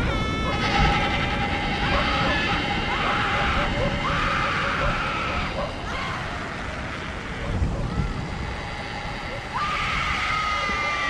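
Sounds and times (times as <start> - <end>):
dark rumbling noise: 0.0 - 11.0
long wavering wail: 0.0 - 11.0.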